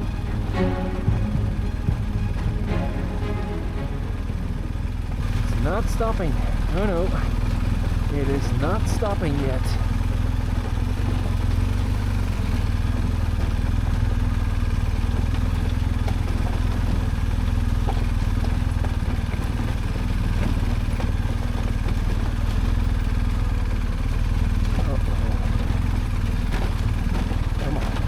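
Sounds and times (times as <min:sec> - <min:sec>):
motorcycle engine droning: 0:00.0 - 0:28.0.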